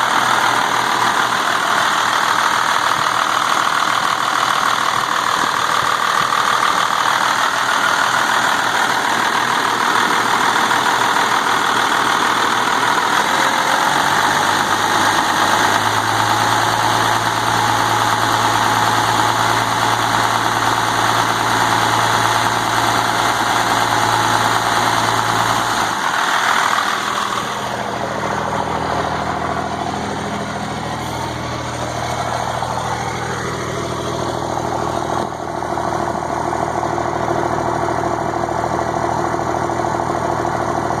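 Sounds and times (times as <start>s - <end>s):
diesel engine idling with clatter: 0.0s - 41.0s.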